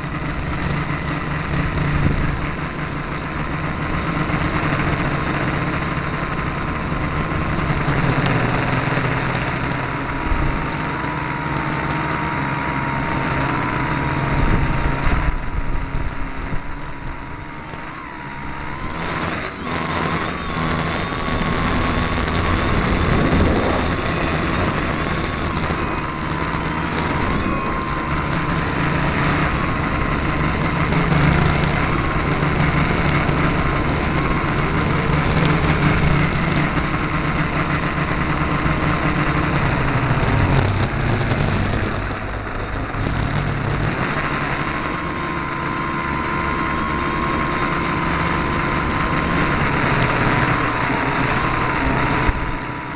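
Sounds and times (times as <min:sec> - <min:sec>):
drone motors and propellers whirring: 0:00.0 - 0:52.9.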